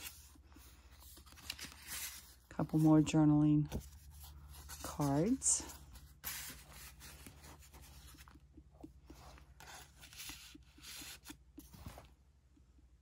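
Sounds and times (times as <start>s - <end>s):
paper cards rustling and sliding: 0.0s - 3.1s, 3.7s - 12.2s.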